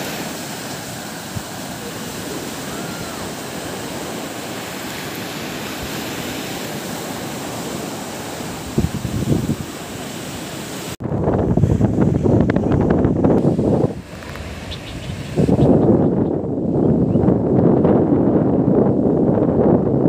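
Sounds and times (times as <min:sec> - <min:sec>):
surf: 0:00.0 - 0:17.7
wind: 0:00.0 - 0:20.0
wind buffeting microphone: 0:00.0 - 0:20.0.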